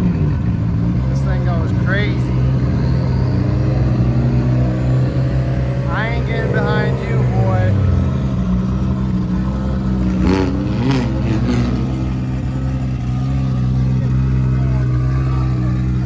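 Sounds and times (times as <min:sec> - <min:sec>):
car engine at held revs: 0:00.0 - 0:16.0.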